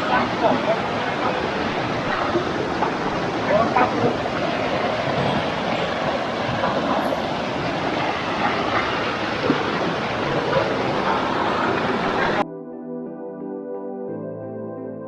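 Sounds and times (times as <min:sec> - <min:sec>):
water rushing in rocky stream: 0:00.0 - 0:12.4.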